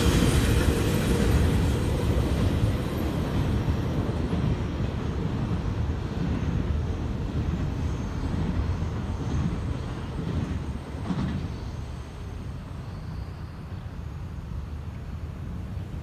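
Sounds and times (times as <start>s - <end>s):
freight train rumbling on rails: 0.0s - 16.0s.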